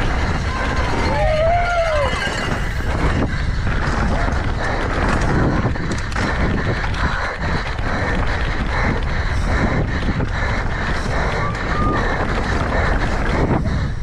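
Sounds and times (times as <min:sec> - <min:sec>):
bike rattling over rocks: 0:00.0 - 0:14.0
wind on camera microphone: 0:00.0 - 0:14.0.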